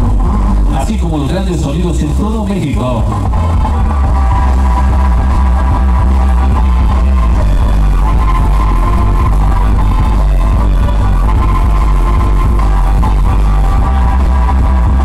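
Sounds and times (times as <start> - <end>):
loud dance music with heavy bass: 0.0 - 15.0.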